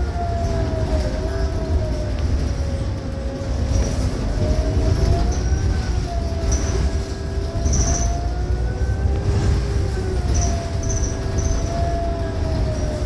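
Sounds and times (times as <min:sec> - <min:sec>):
bus drive whine: 0:00.0 - 0:13.0
bus engine rumble: 0:00.0 - 0:13.0.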